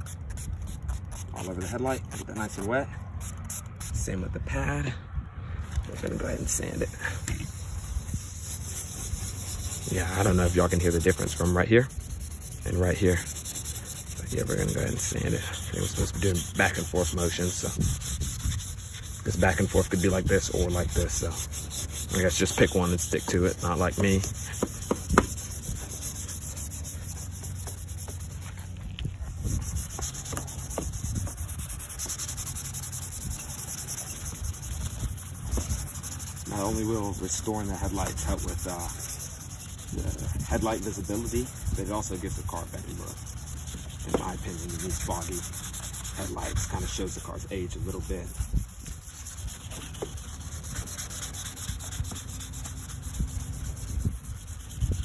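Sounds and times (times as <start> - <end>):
wet sandpaper rubbing: 0.0 - 4.2, 5.7 - 55.0.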